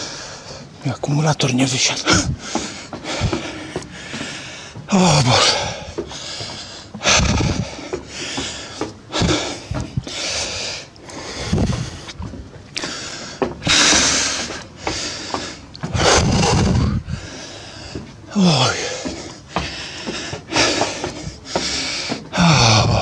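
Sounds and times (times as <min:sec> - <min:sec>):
man panting heavily: 0:00.0 - 0:00.8, 0:02.0 - 0:12.2, 0:12.8 - 0:23.0.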